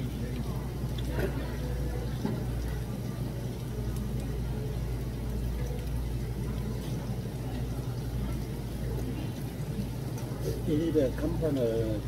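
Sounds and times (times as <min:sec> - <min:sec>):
restaurant room hum: 0:00.0 - 0:12.0.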